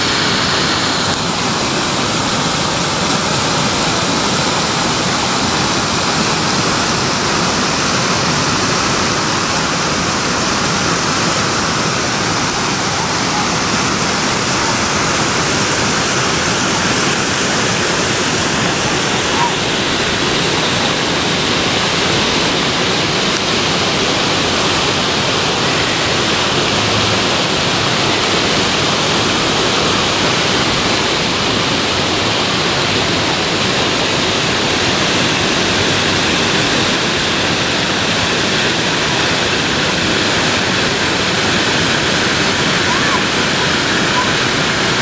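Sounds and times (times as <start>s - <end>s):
water rushing over rocks: 0.0s - 45.0s.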